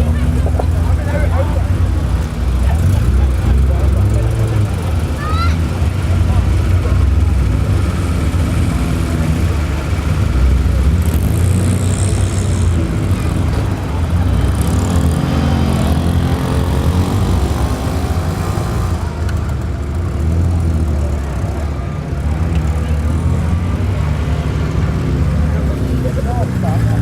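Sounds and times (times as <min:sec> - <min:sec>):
car engines running slowly: 0:00.0 - 0:27.0.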